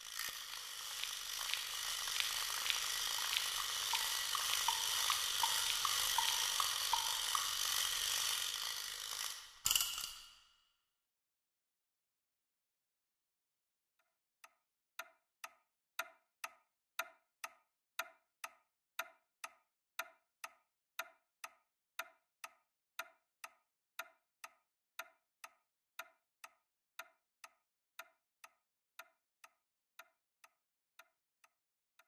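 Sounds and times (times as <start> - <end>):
clock ticking: 0.0 - 9.3, 14.4 - 31.1.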